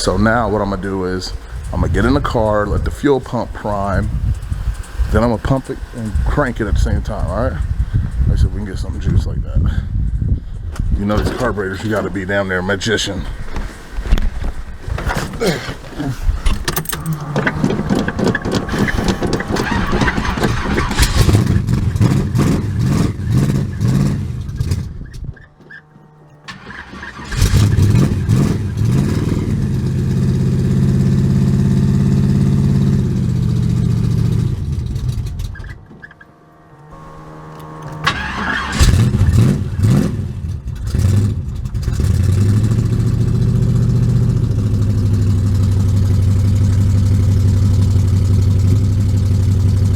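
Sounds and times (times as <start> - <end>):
car engine cranking and idling: 0.0 - 49.9.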